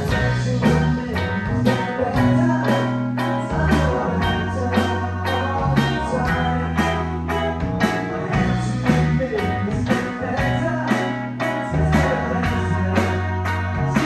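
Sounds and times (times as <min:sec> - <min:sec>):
band playing blues rock: 0:00.0 - 0:14.0
guitar: 0:00.0 - 0:14.0
steady drum beat: 0:00.0 - 0:14.0
sustained bass notes: 0:00.0 - 0:14.0.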